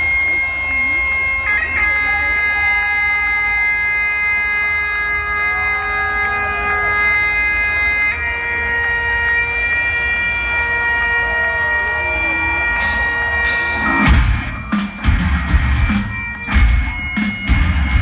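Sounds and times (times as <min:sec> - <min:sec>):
crowd noise: 0:00.0 - 0:18.0
held droning tones: 0:00.0 - 0:18.0.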